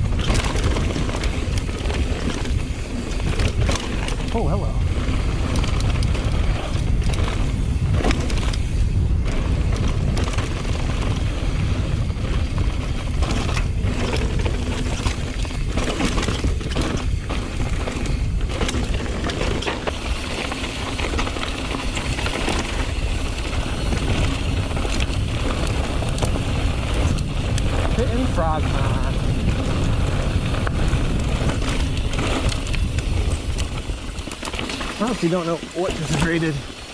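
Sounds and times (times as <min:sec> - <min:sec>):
bike rattling over bumps: 0:00.0 - 0:36.9
wind rush on microphone: 0:00.0 - 0:36.9.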